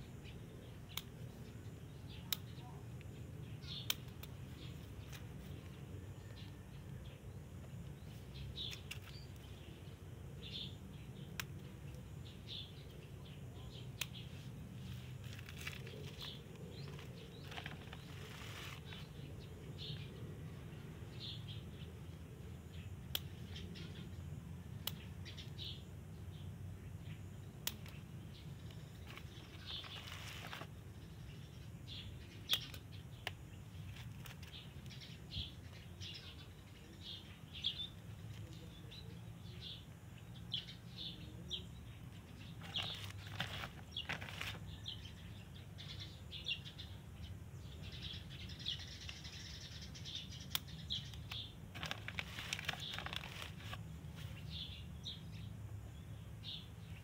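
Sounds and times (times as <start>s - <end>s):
bird chirps: 0.0s - 57.0s.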